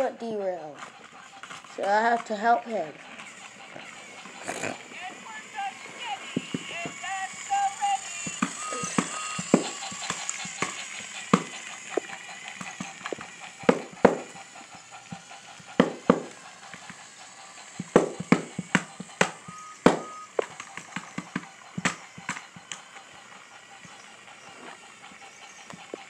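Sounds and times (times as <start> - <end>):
toy train clicking on track: 0.0 - 26.0.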